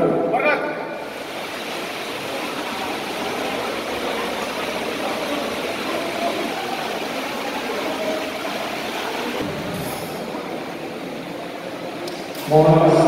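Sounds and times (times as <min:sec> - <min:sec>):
heavy rain on roof: 0:01.0 - 0:13.0.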